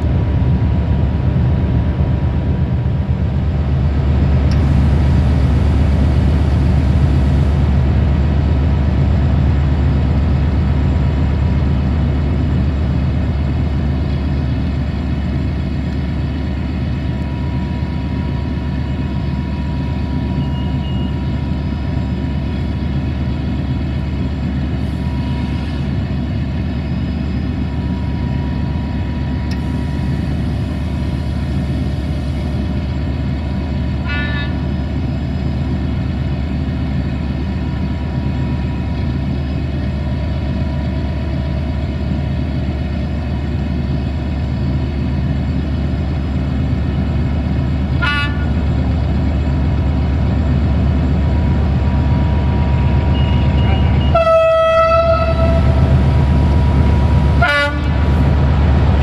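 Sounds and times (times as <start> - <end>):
locomotive engine idling: 0.0 - 59.0.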